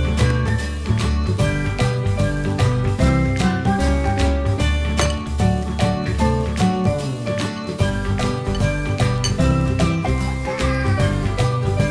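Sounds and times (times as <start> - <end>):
background music with steady beat: 0.0 - 11.9.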